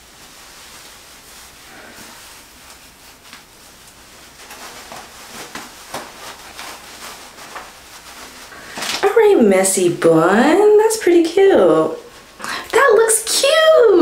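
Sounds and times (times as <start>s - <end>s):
faint steady hiss: 0.0s - 14.0s
hands rustling hair: 0.0s - 14.0s.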